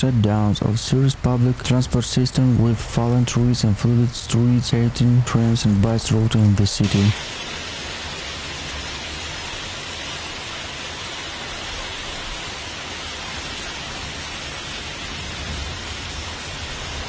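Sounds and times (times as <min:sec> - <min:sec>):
rain and hail on a roof: 0:00.0 - 0:17.0.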